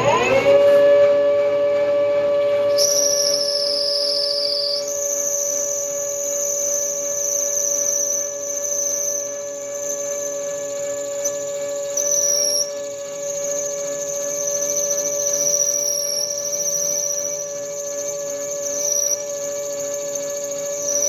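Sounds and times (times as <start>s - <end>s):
lathe motor hum: 0.0s - 21.0s
cutting tool high-pitched squeal: 2.5s - 21.0s.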